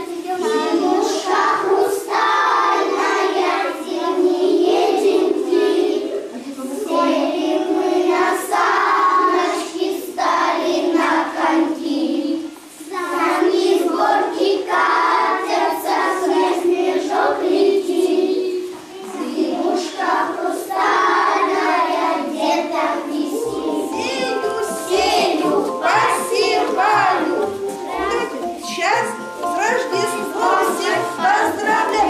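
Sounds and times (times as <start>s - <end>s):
children singing in unison: 0.0s - 28.6s, 29.2s - 32.0s.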